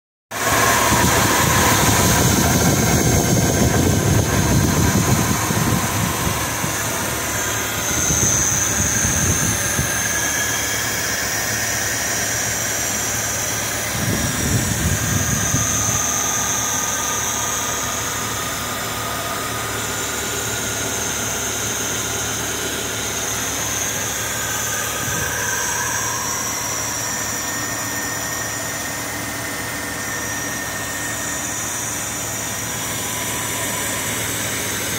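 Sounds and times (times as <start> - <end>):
car engine idling: 0.3 - 34.9.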